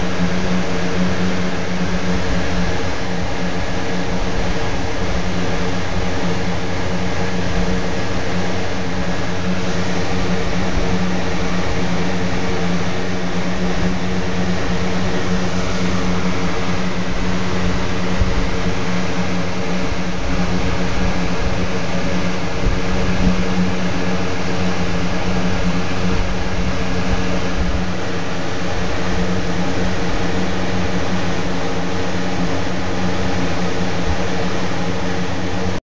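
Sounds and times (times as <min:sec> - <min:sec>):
machine hum: 0:00.0 - 0:35.8.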